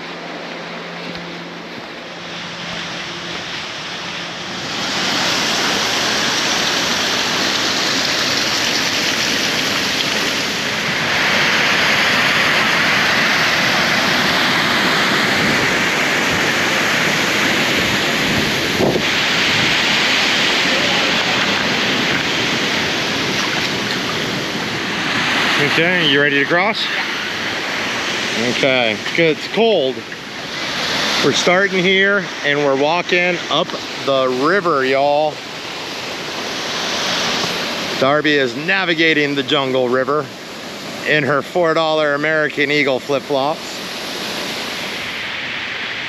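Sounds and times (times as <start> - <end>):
river water rushing over rocks: 0.0 - 46.0.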